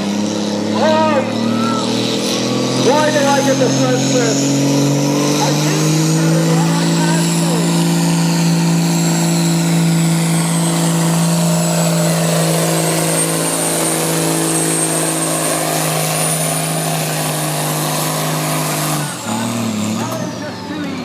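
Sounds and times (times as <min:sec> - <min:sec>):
tractor engine at high revs: 0:00.0 - 0:21.0.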